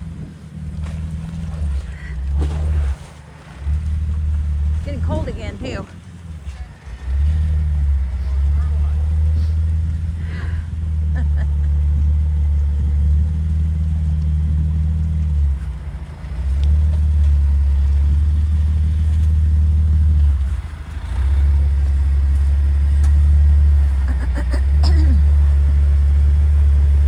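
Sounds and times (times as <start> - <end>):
vehicle rumbling on rocky trail: 0.0 - 27.0.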